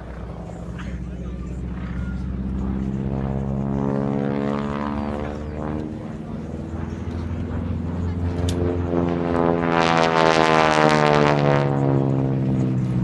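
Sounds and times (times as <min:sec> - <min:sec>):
propeller airplane engine passing: 0:00.0 - 0:13.0.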